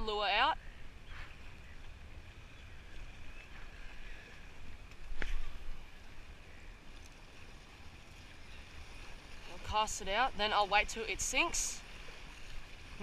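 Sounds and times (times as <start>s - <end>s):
water lapping against rocks: 0.0s - 13.0s.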